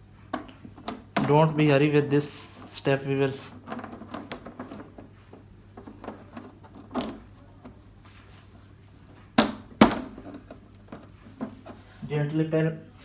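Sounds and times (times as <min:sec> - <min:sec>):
plastic handling: 0:00.2 - 0:12.2.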